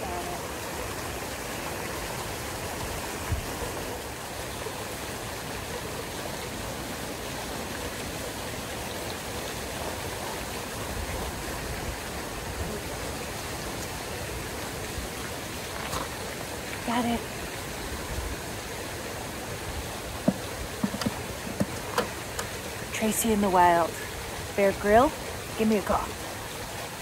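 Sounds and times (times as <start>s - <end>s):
fountain water spraying: 0.0s - 27.0s.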